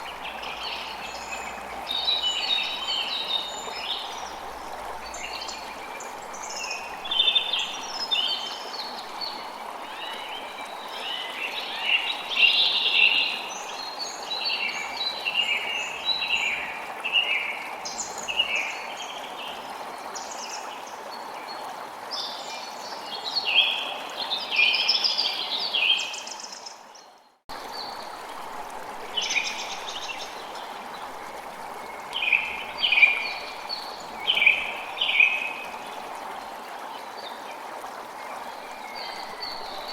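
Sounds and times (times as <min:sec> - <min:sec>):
stream water rushing: 0:00.0 - 0:26.9, 0:27.5 - 0:39.9.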